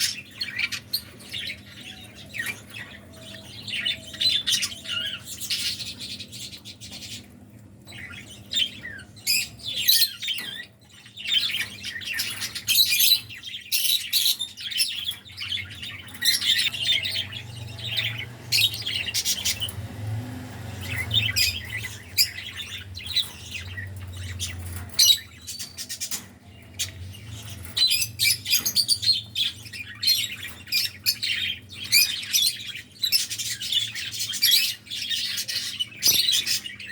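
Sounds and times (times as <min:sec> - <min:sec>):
cockatiels chirping and squawking: 0:00.0 - 0:36.9.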